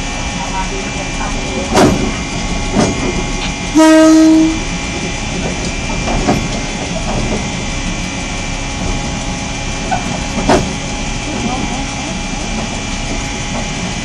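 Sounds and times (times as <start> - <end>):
diesel railcar running: 0.0 - 14.0.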